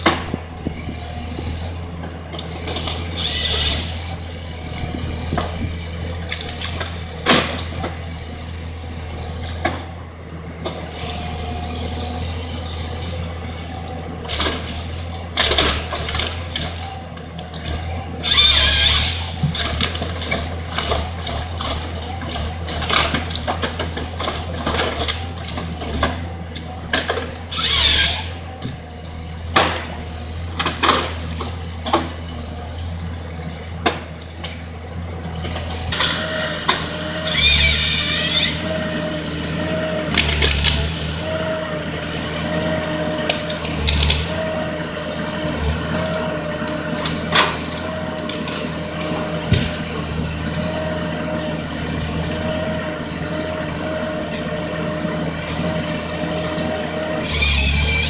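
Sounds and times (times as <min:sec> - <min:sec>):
chainsaw cutting through wood: 0:00.0 - 0:58.0
diesel engine running: 0:00.0 - 0:58.0.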